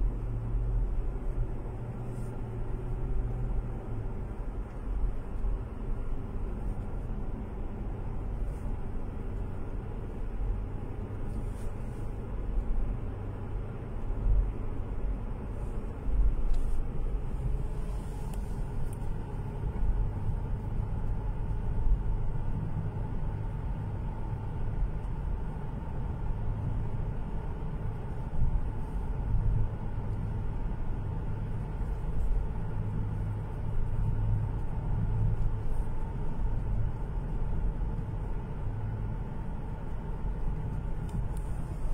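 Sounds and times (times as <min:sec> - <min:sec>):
car interior road rumble: 0:00.0 - 0:41.9.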